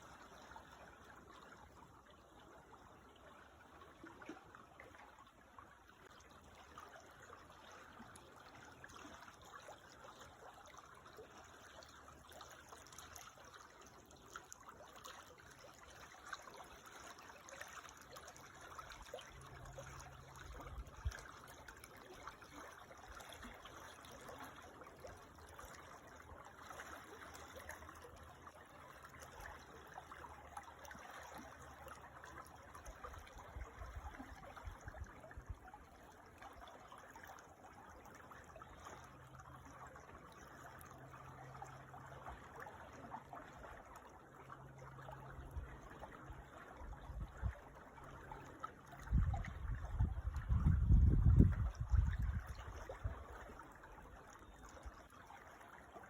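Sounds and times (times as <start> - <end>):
creek trickling: 0.0 - 56.0.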